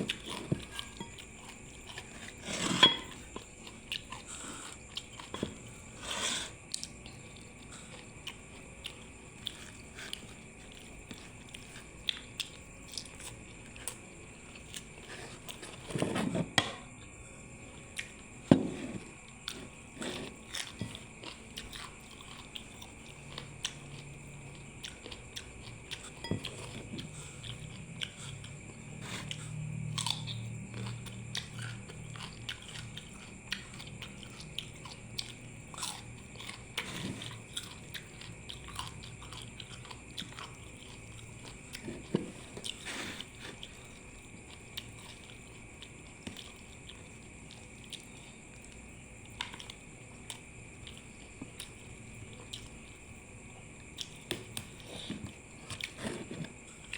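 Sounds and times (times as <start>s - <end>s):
chewing and crunching food: 0.0s - 56.9s.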